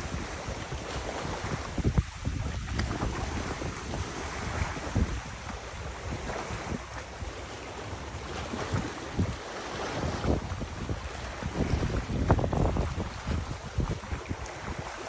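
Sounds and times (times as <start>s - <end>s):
rushing wind hiss: 0.0s - 15.0s
wind buffeting microphone: 0.0s - 15.0s.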